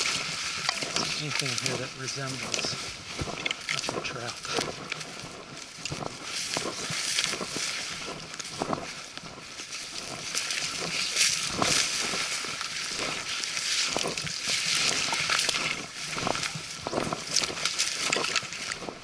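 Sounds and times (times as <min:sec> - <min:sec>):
twigs snapping: 0:00.0 - 0:19.0.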